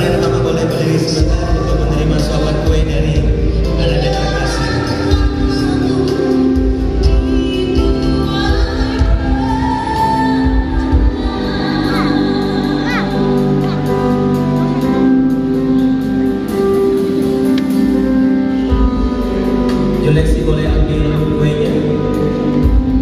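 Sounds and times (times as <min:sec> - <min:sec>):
music with singing: 0:00.0 - 0:23.0.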